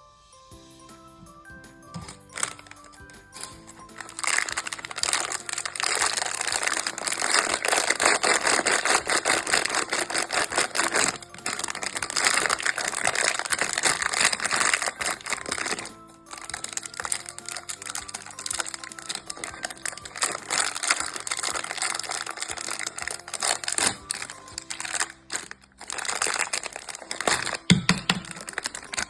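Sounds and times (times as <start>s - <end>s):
light background music: 0.0s - 29.0s
plastic wrapping crinkling: 1.9s - 29.0s.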